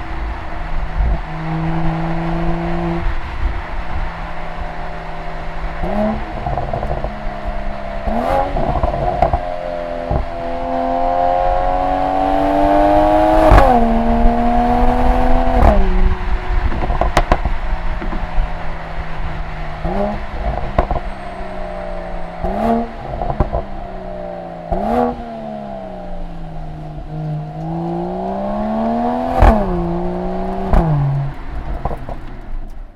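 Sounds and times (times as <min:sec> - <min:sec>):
car exhaust revving through gear changes: 0:00.0 - 0:32.9
exhaust cracks: 0:00.0 - 0:32.9.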